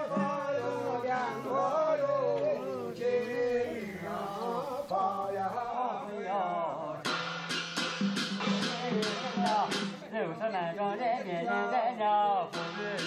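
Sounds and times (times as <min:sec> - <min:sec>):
man chanting: 0:00.0 - 0:07.1, 0:08.4 - 0:13.0.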